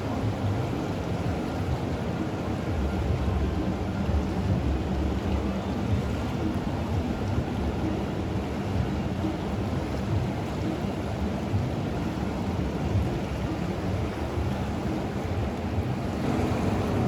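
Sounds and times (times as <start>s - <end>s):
rushing river water: 0.0s - 17.0s
wind buffeting microphone: 0.0s - 17.0s.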